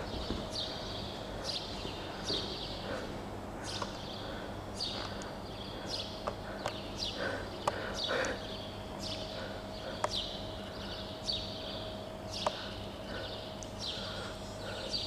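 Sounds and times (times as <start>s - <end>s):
birds chirping: 0.0s - 15.0s
faint steady hum: 0.0s - 15.0s.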